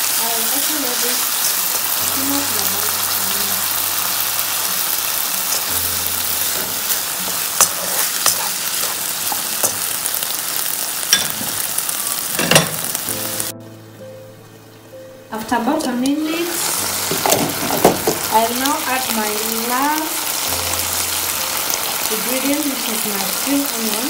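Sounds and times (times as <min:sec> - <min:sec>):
food sizzling in frying pan: 0:00.0 - 0:13.5, 0:14.6 - 0:24.0.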